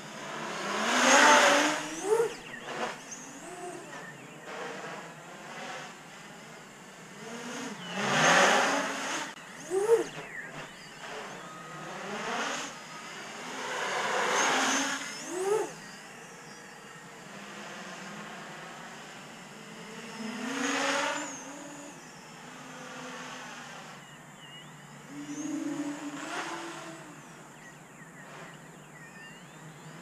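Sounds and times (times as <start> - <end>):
racing drone buzzing whine: 0.0 - 30.0.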